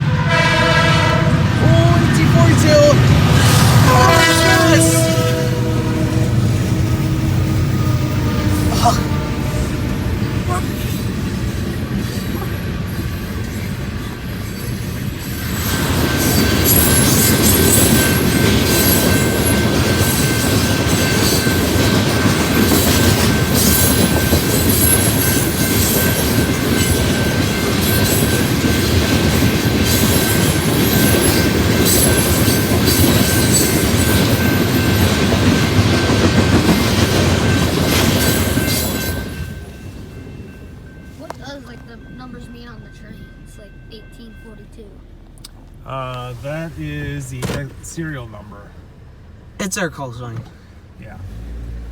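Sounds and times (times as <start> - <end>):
freight train wheels clattering: 0.8 - 43.5.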